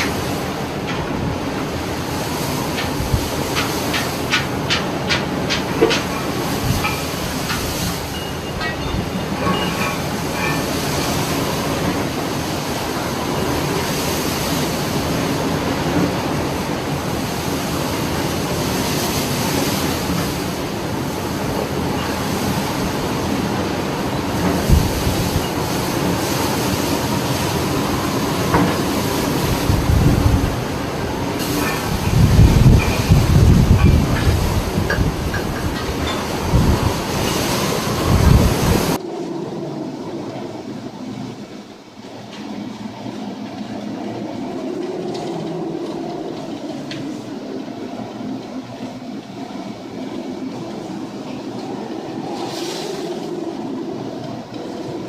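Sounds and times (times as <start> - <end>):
heavy sea: 0.0 - 55.0
storm wind roaring: 0.0 - 55.0.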